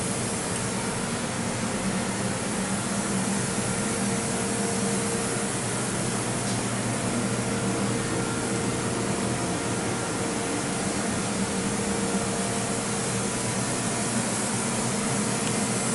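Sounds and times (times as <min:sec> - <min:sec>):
steady hiss with mechanical hum: 0:00.0 - 0:15.9.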